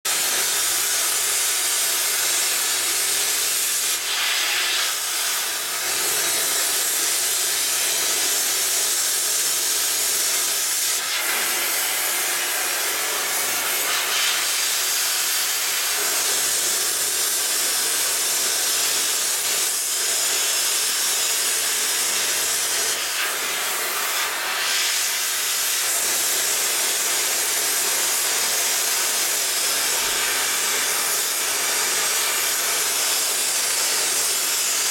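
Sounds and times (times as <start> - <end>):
cutting torch hissing: 0.1 - 34.9.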